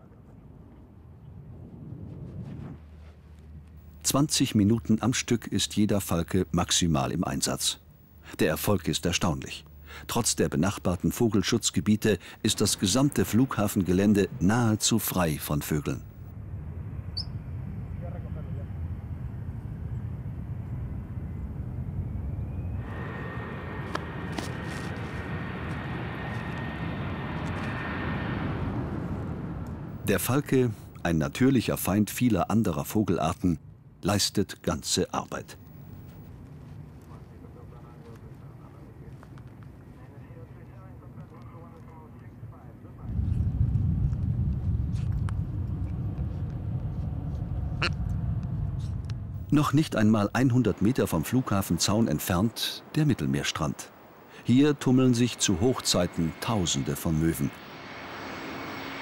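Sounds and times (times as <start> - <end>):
low rumble: 0.4 - 32.2, 43.0 - 59.0
high turbine whine: 3.4 - 33.1, 34.5 - 42.1, 42.8 - 59.0
jet aircraft engine noise: 3.8 - 32.2, 37.0 - 59.0.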